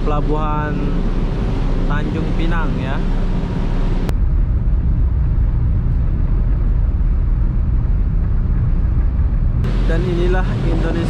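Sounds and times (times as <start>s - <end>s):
ferry engines rumbling: 0.0s - 11.0s
wind and water hiss: 0.0s - 11.0s.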